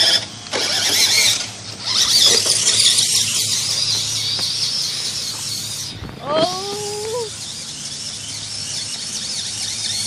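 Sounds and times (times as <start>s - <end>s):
toy car electric motor whirring: 0.0s - 10.0s.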